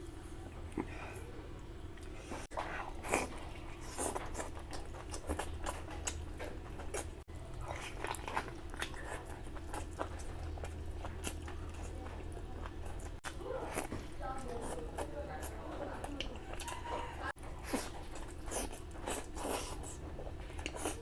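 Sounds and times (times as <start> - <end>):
steady low hum: 0.0 - 21.0
chewing and biting food: 1.9 - 21.0.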